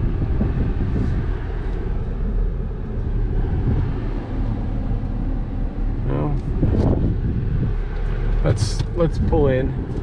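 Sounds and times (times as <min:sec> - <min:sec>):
truck engine and tyres rumbling: 0:00.0 - 0:10.0.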